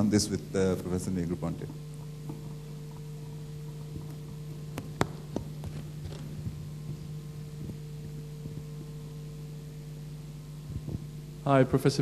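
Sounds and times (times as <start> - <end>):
sound system electrical hum: 0.0 - 12.0.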